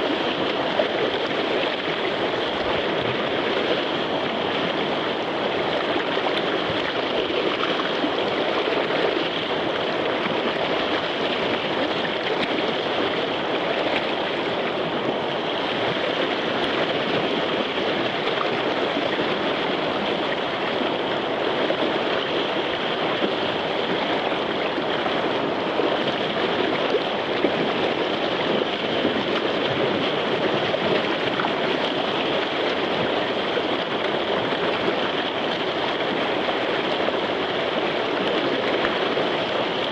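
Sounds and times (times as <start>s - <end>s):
river rapid rushing: 0.0s - 39.9s.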